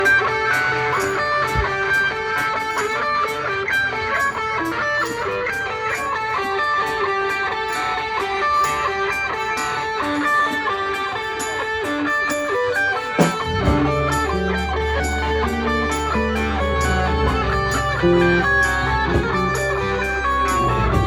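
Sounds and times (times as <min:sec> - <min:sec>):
live band with electric guitar: 0:00.0 - 0:21.0.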